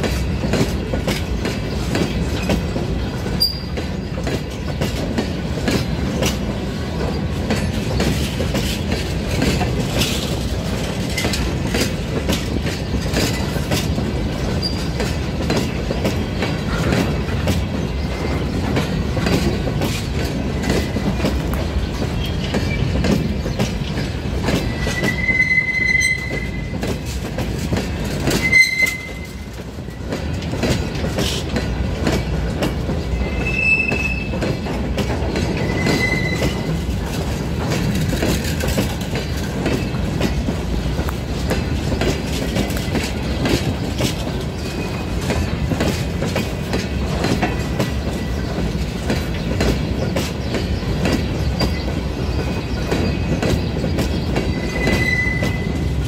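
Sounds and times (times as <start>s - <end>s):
train wagons rumbling past: 0.0s - 56.0s
wheels clicking over rail joints: 0.0s - 56.0s
train wheels squealing: 0.1s - 27.2s, 28.0s - 31.5s, 32.2s - 40.5s, 41.3s - 56.0s.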